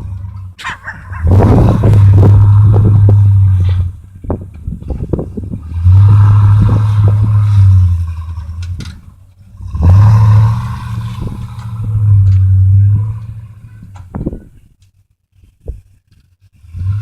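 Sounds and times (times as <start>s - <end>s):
truck engine revving: 0.0s - 14.4s.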